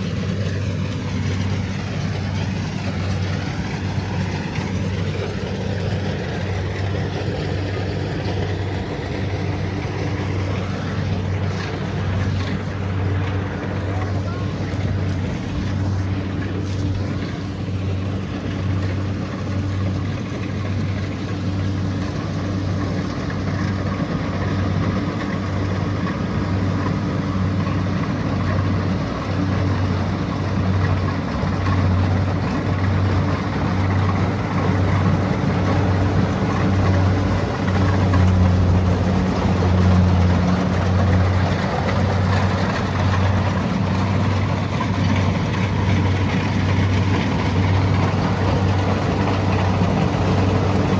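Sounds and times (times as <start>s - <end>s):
diesel engine droning: 0.0s - 50.9s.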